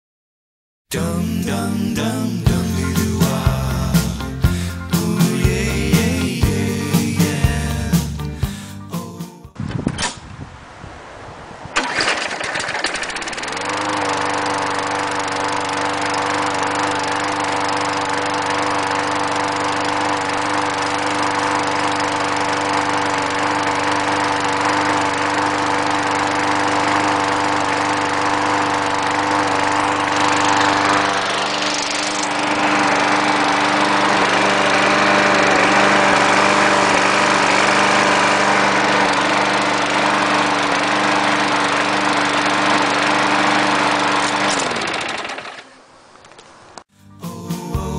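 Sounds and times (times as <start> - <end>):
small engine running: 1.0 - 8.8, 11.8 - 47.9.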